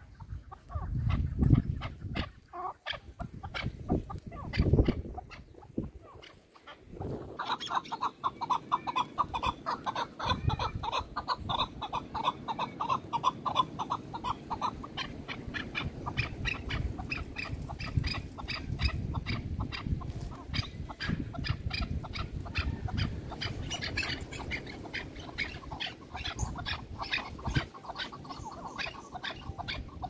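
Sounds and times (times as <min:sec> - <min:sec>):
partridges calling: 0:00.0 - 0:30.0.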